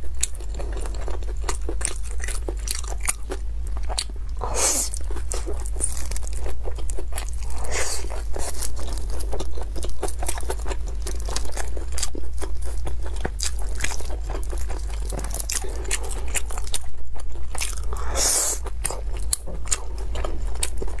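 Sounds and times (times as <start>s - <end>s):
steady low hum: 0.0s - 21.0s
wet chewing and crunching: 0.0s - 21.0s.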